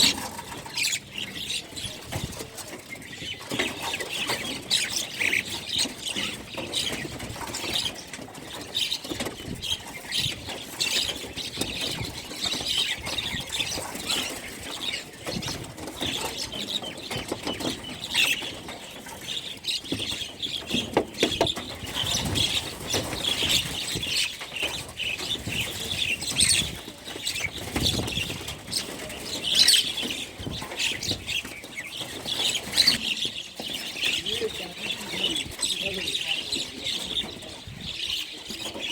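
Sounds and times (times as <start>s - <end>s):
small birds chirping: 0.0s - 38.9s
wing flutters and rustles: 0.0s - 38.9s.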